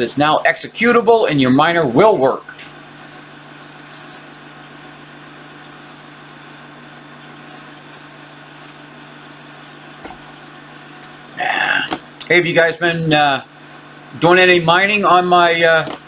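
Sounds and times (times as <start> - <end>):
low hum: 1.0 - 16.0.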